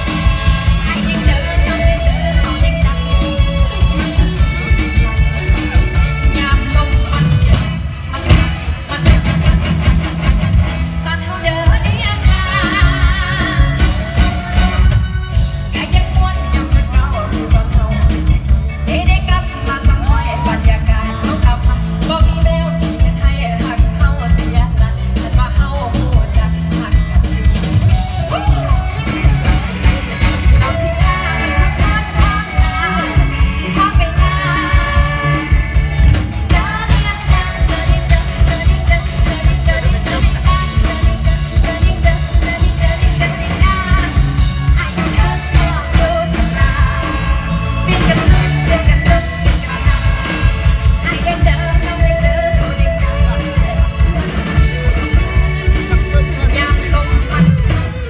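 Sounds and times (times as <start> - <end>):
woman singing: 0.0 - 10.0, 10.9 - 58.0
live band music: 0.0 - 58.0.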